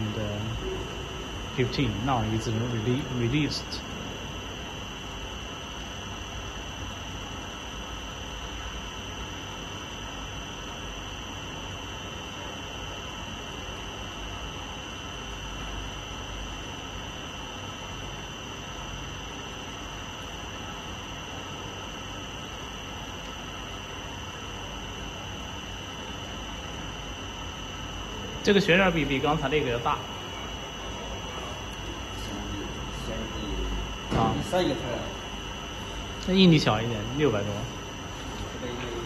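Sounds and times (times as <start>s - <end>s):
high-pitched electrical whine: 0.0s - 39.0s
low machine hum: 0.0s - 39.0s.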